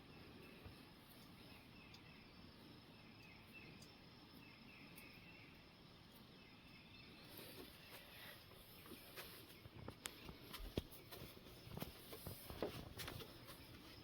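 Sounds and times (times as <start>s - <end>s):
faint insect chirping: 0.0s - 14.0s.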